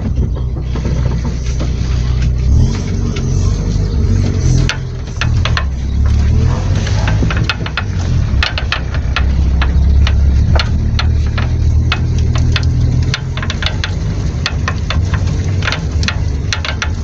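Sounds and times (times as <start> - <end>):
car engine humming: 0.0 - 17.0
knocks and clicks from suspension: 0.0 - 17.0.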